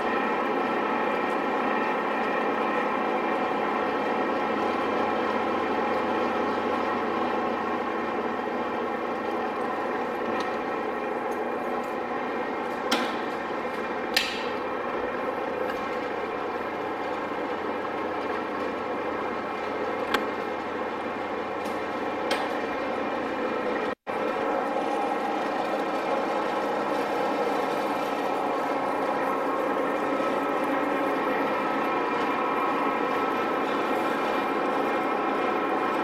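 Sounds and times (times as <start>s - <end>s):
drill machine drone: 0.0s - 36.0s.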